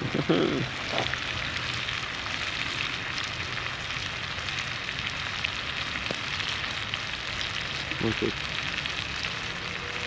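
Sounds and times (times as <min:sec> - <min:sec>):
meat sizzling in skillet: 0:00.2 - 0:10.0.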